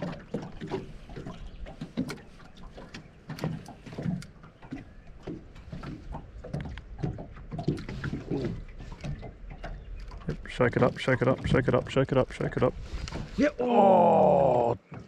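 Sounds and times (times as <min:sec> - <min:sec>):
knocks around a boat: 0:00.0 - 0:13.6
water slapping a boat: 0:00.0 - 0:15.0.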